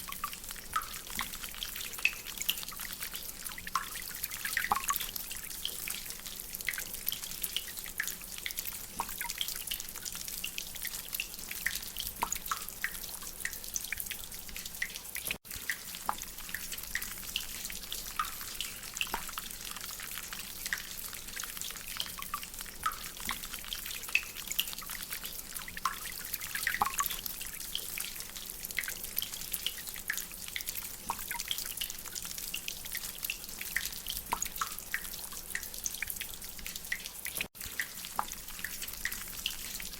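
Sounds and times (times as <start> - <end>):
water dripping from drainpipe: 0.0 - 39.9.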